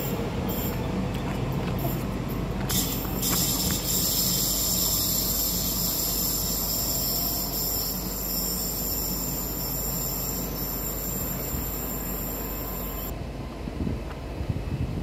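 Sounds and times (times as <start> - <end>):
electric train rumbling away: 0.0 - 15.0.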